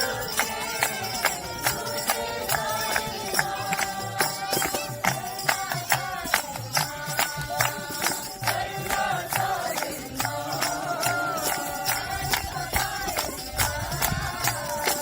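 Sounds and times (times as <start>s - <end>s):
group singing devotional song: 0.0s - 15.0s
tambourine jingling: 0.0s - 15.0s.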